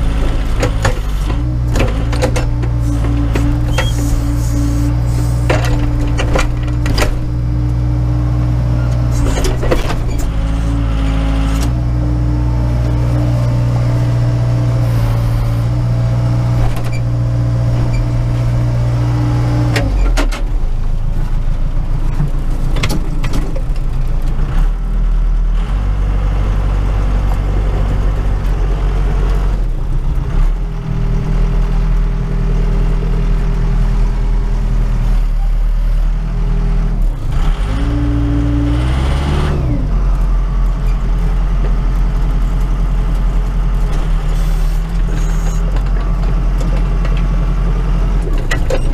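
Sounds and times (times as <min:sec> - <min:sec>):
diesel engine running inside cab: 0:00.0 - 0:48.9.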